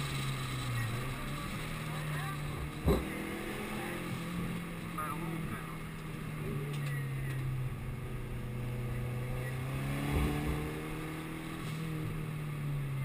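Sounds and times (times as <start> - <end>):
car engine drone from cabin: 0.0 - 13.0.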